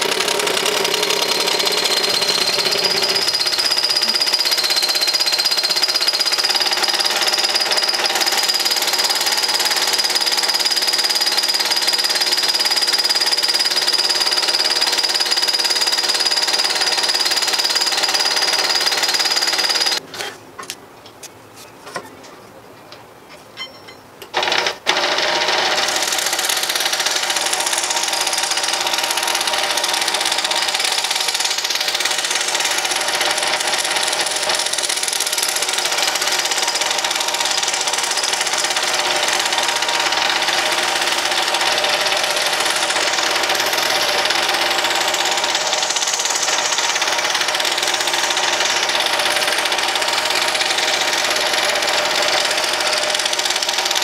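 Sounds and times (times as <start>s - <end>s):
scroll saw cutting wood: 0.0s - 20.4s, 24.4s - 54.0s.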